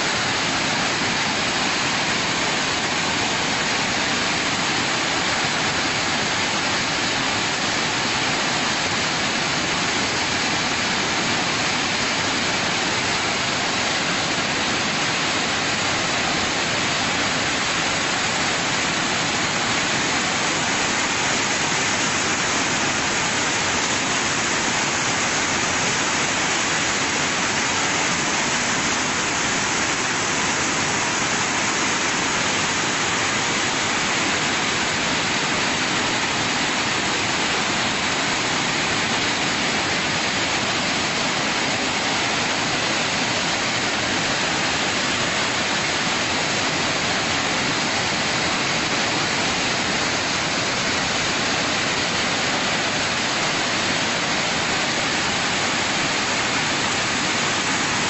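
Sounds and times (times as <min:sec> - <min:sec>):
floodwater rushing: 0:00.0 - 0:58.0
heavy rain falling: 0:00.0 - 0:58.0.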